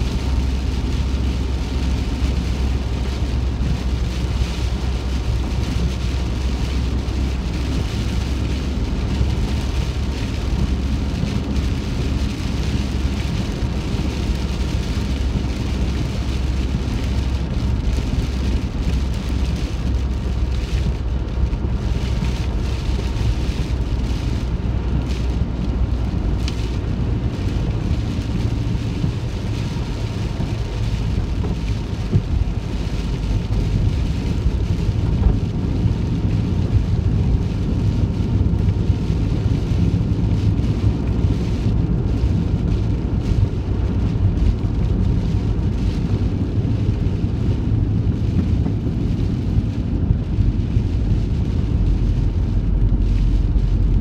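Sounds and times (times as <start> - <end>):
heavy rain on vehicle roof: 0.0 - 54.0
van rumbling on road: 0.0 - 54.0.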